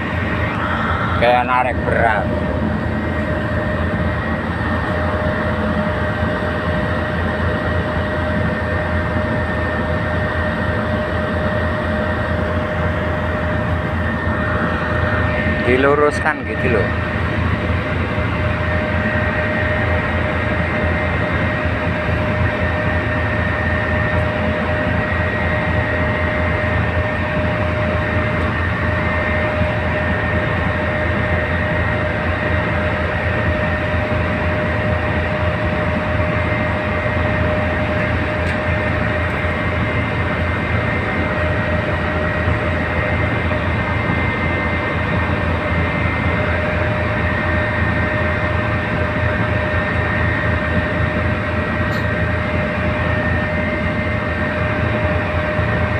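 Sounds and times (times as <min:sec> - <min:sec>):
diesel engine throbbing: 0:00.0 - 0:55.9.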